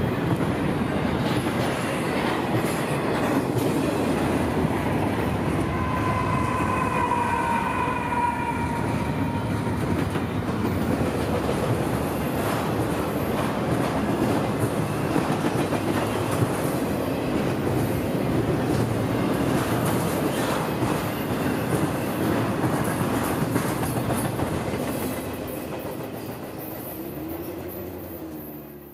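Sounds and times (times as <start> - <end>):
train wheels clattering on rails: 0.0 - 7.0, 8.6 - 28.9.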